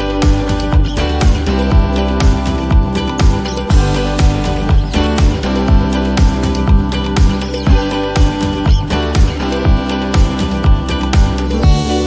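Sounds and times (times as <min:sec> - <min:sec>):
bass drum beat: 0:00.0 - 0:12.0
sustained chords: 0:00.0 - 0:12.0.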